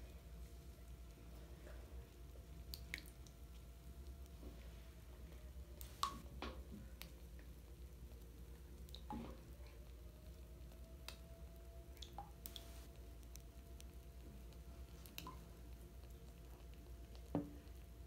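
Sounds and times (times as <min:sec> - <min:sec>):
small pops and drips: 0:02.1 - 0:04.6, 0:05.8 - 0:18.0.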